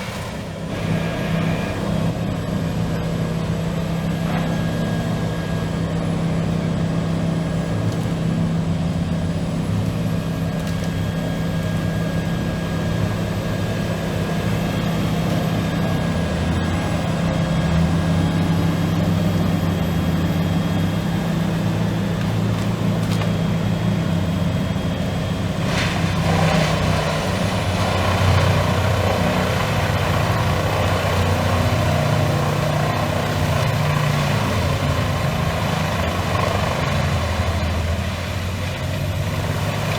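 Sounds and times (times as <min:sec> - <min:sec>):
diesel engine droning: 0:00.0 - 0:39.9
harsh rough shredding noise: 0:00.0 - 0:39.9.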